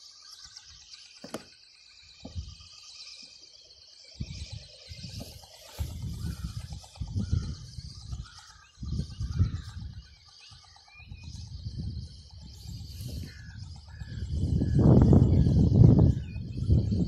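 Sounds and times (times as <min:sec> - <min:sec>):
birds chirping: 0:00.0 - 0:17.0
wind buffeting microphone: 0:02.2 - 0:02.7, 0:03.8 - 0:17.0.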